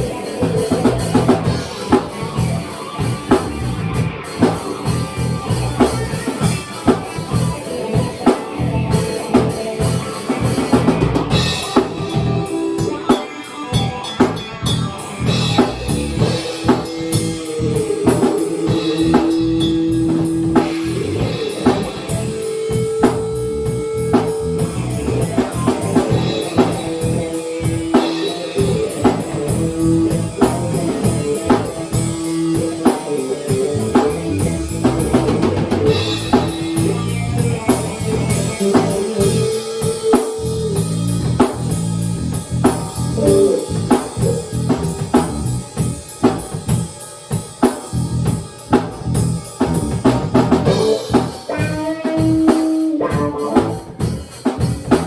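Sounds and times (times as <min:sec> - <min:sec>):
guitar playing: 0:00.0 - 0:46.0, 0:48.8 - 0:55.0
drum kit beat: 0:00.0 - 0:55.0.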